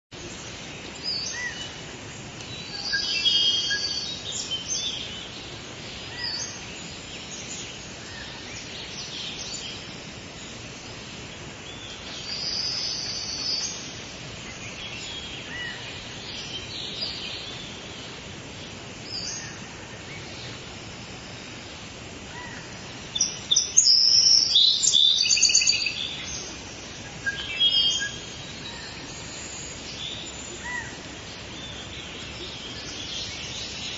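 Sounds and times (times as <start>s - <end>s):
steady background hiss: 0.1s - 33.9s
birds calling and chirping: 0.2s - 33.9s.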